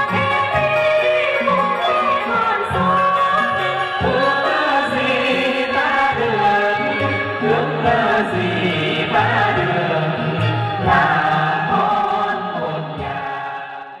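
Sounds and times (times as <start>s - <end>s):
male and female voices singing: 0.0s - 14.0s.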